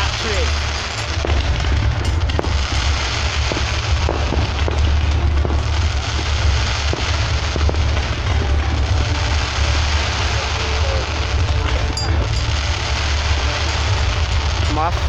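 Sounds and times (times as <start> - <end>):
fireworks crackling and popping: 0.0 - 15.0
low rumble: 0.0 - 15.0.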